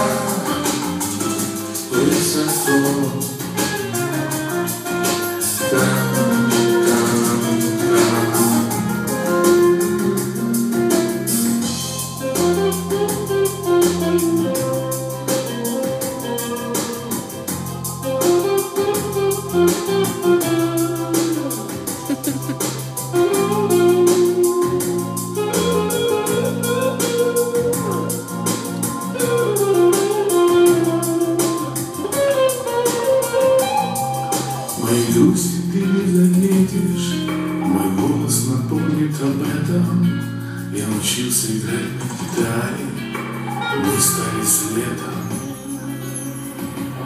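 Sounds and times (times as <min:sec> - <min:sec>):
drum kit beat: 0:00.0 - 0:38.2, 0:41.9 - 0:47.0
lead melody line: 0:00.0 - 0:39.8, 0:43.2 - 0:47.0
guitar: 0:00.0 - 0:47.0.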